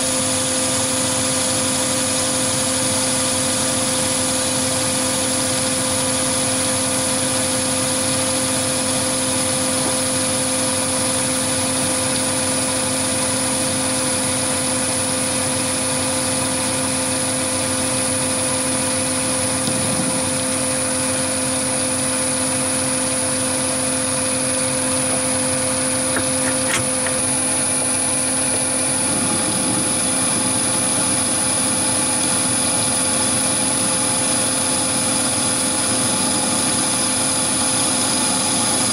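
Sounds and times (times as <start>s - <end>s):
lathe humming with high whine: 0.0s - 38.9s.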